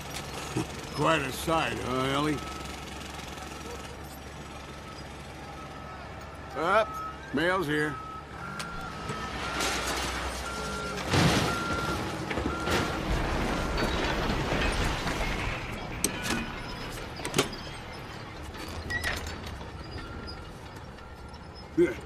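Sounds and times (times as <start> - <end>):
heavy machinery running: 0.0 - 7.0, 8.0 - 21.8
reversing beeper: 0.9 - 22.0.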